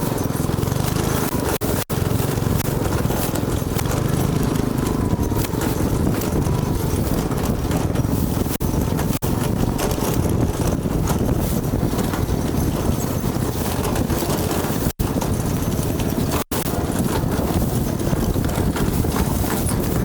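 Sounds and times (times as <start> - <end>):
go-kart rumbling and rattling: 0.0 - 20.0
wind buffeting microphone: 0.0 - 20.0.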